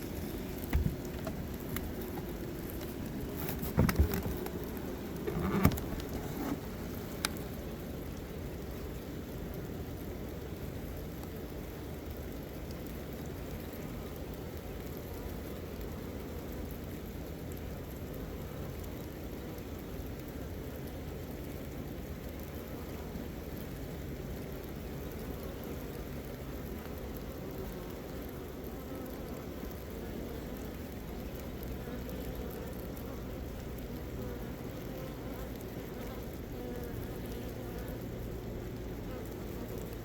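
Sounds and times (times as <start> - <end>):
honeybees buzzing: 0.0 - 10.7, 18.1 - 40.0.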